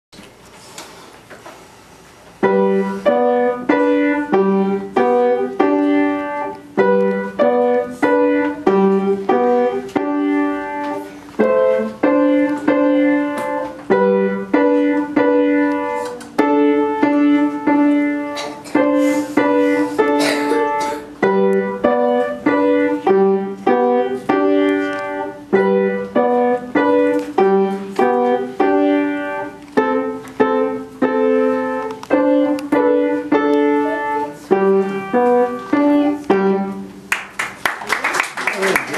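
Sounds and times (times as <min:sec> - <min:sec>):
piano notes and chords: 0:02.4 - 0:37.2.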